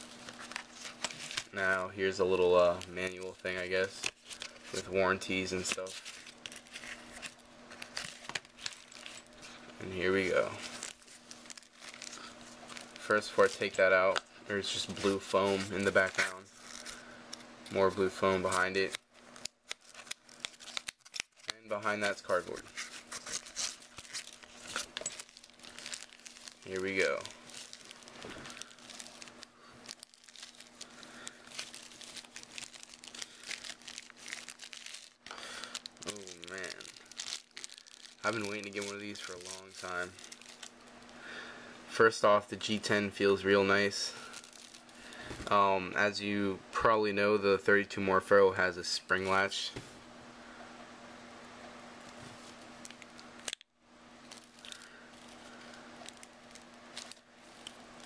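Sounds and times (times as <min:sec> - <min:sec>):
plastic packaging crinkling: 0:00.0 - 0:41.6, 0:42.6 - 0:45.5, 0:54.2 - 0:58.0
faint steady hum: 0:00.0 - 0:58.0.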